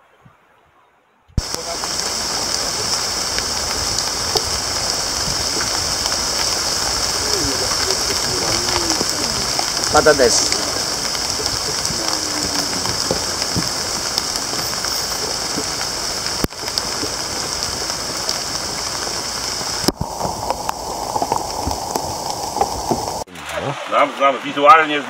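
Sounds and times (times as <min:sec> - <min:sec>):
steady rain falling: 0:01.4 - 0:25.0.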